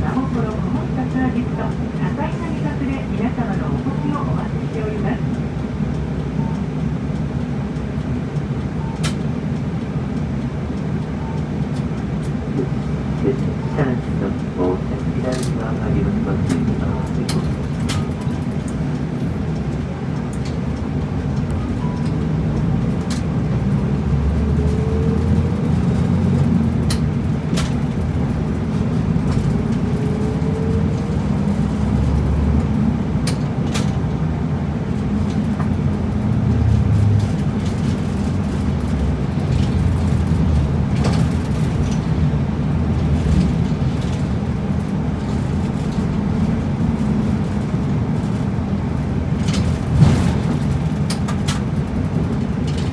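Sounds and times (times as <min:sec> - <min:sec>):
bus diesel engine: 0:00.0 - 0:52.9
road rumble: 0:00.0 - 0:52.9.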